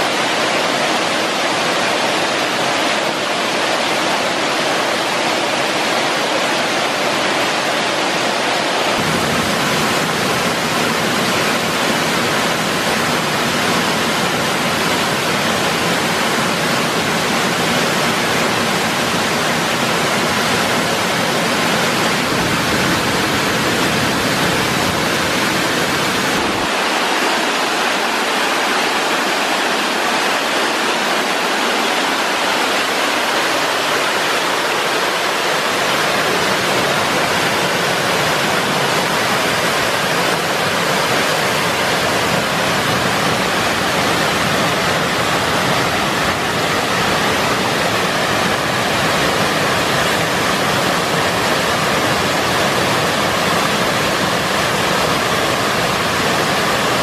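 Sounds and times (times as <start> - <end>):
stream running over rocks: 0.0 - 57.0
waterfall rushing: 0.0 - 57.0.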